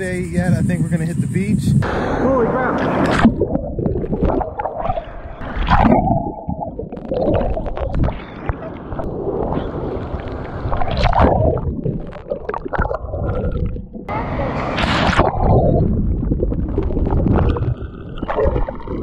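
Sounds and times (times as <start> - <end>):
muffled underwater sound: 1.7 - 19.0
seawater sloshing and gurgling: 3.0 - 14.1, 14.7 - 19.0.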